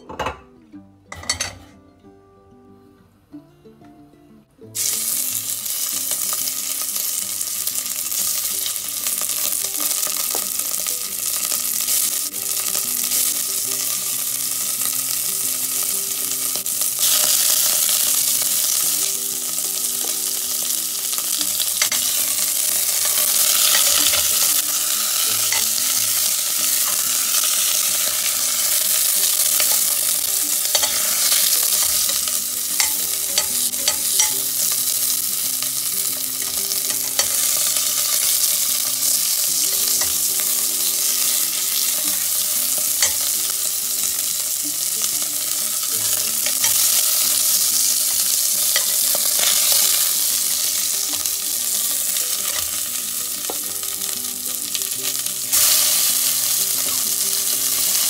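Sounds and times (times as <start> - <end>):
chicken sizzling in a pot: 4.7 - 58.0.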